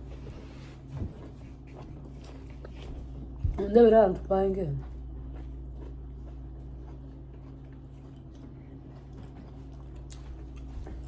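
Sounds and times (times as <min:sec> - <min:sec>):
person chewing: 0:00.0 - 0:03.6, 0:04.8 - 0:11.0.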